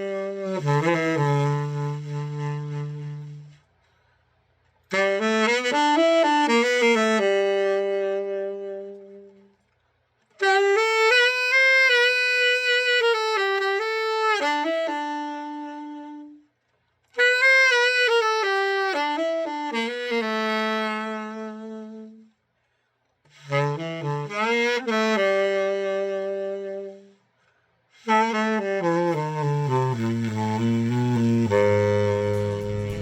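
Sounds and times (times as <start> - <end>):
tenor saxophone playing solo: 0.0 - 3.9, 4.9 - 9.7, 10.4 - 22.4, 23.3 - 33.0.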